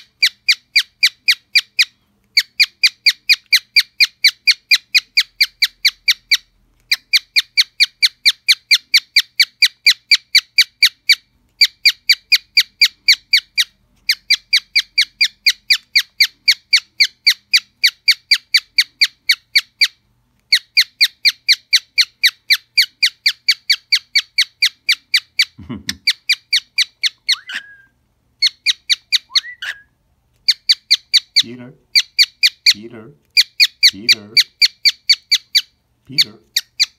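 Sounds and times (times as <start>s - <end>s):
cockatiel chirping: 0.0s - 36.9s.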